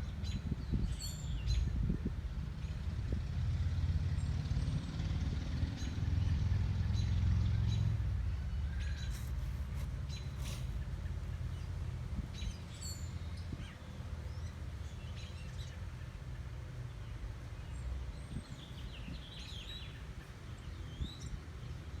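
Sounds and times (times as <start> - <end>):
low background rumble: 0.0 - 22.0
wild birds chirping: 4.1 - 22.0.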